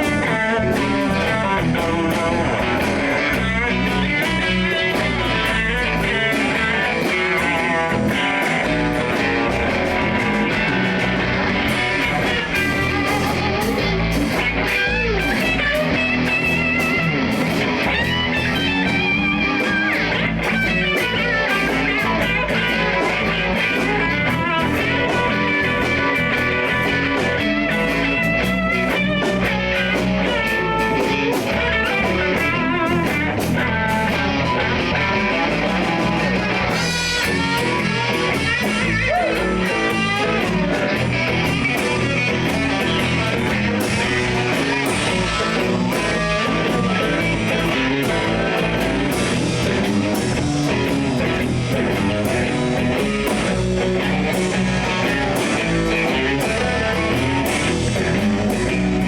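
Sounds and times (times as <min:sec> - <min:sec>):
blues band playing: 0:00.0 - 0:59.0
electric guitar lead: 0:00.0 - 0:59.0.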